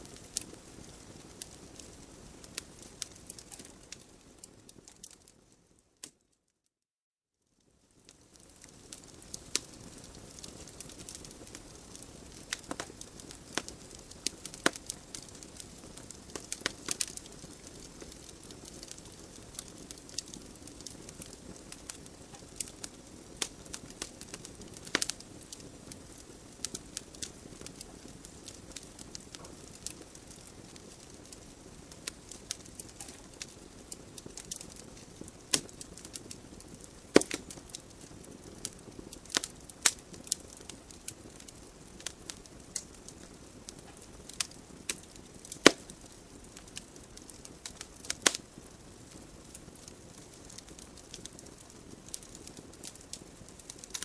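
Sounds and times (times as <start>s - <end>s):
fireplace logs crackling and popping: 0.0s - 6.3s, 7.7s - 54.0s
low hiss of flames: 7.8s - 54.0s.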